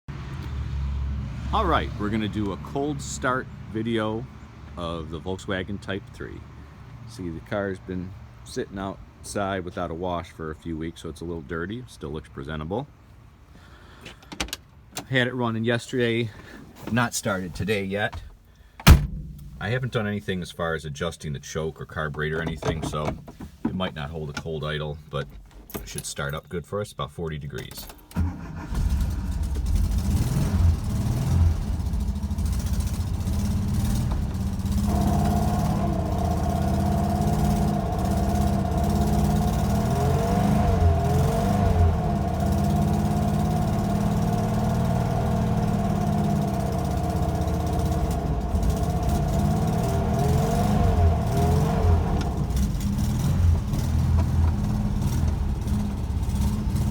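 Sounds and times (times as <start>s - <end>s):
car engine starting and running: 0.1s - 9.5s, 14.2s - 26.3s, 27.5s - 56.9s.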